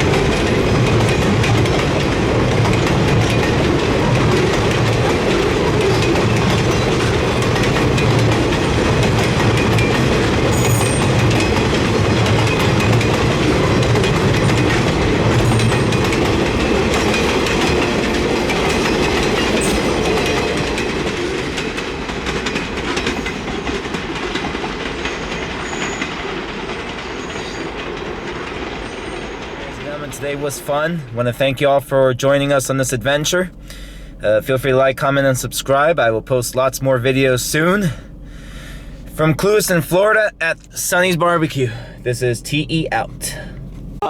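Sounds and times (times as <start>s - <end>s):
freight train wheels clacking: 0.0s - 44.0s.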